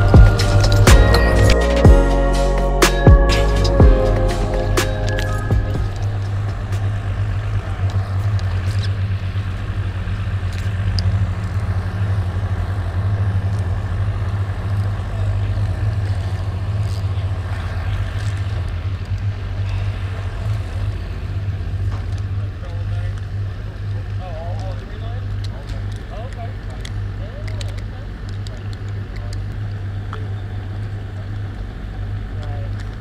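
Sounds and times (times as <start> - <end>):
engine idling hum: 0.0 - 33.0.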